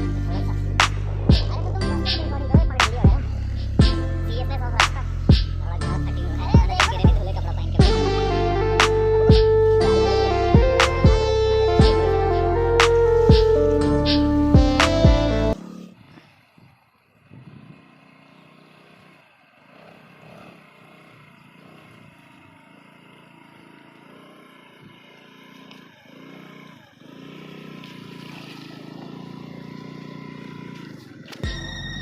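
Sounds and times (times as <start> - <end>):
small motorbike engine revving: 0.0 - 32.0.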